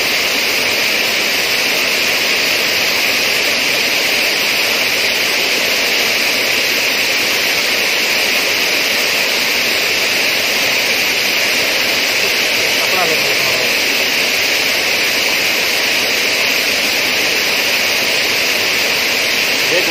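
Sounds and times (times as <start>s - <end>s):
river water rushing over rocks: 0.0s - 19.9s.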